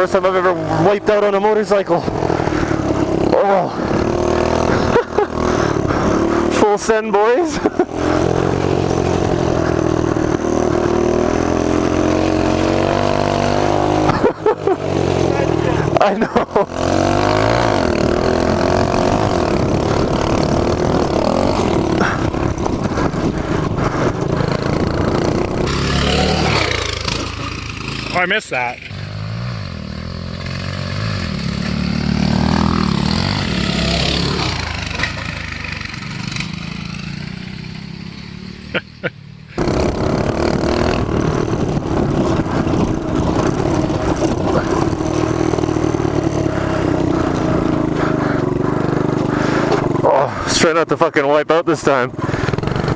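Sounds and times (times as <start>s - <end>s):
mini bike engine revving: 0.0s - 52.9s.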